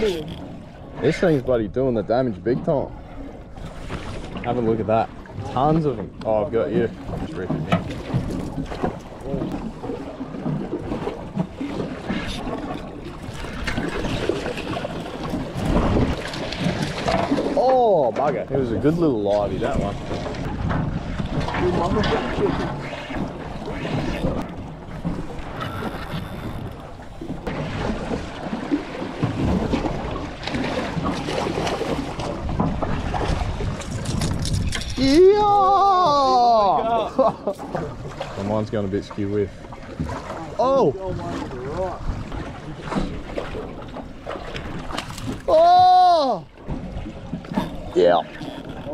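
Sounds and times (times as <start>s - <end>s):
wind buffeting microphone: 0.0s - 17.6s, 18.2s - 28.6s, 29.2s - 45.6s
water sloshing around a boat: 0.0s - 48.9s.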